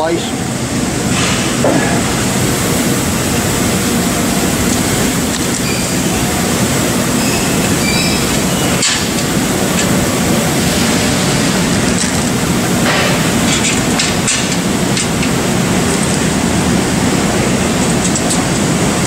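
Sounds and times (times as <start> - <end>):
shop machinery drone: 0.0 - 19.0.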